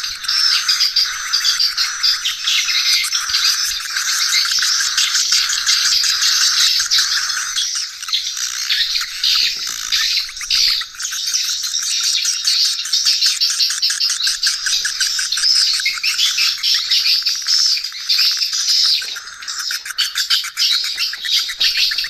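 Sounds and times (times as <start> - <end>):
swiftlets twittering: 0.0 - 22.0.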